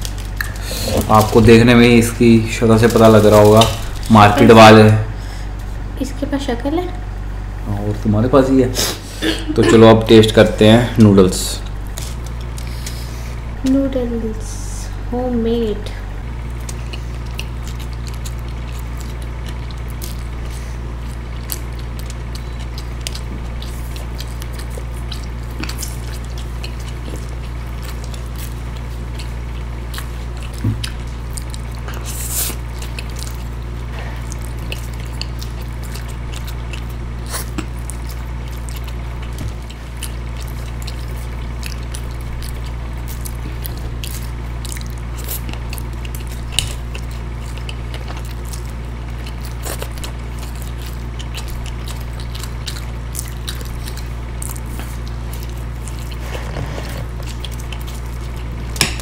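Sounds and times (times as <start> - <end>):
people slurping and chewing noodles: 0.0 - 5.8, 8.7 - 13.6, 16.0 - 59.0
low hum: 0.0 - 59.0.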